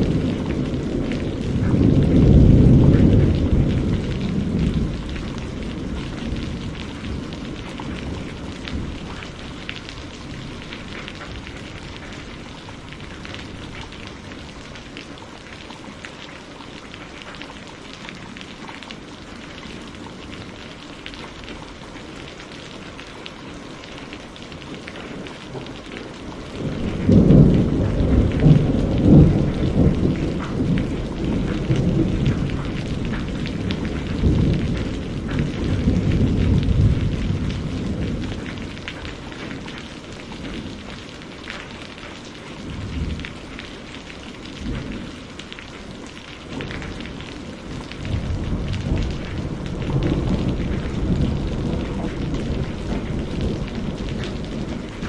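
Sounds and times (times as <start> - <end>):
thunder rumbling: 0.0 - 15.6, 24.5 - 55.0
steady rain falling: 0.0 - 55.0.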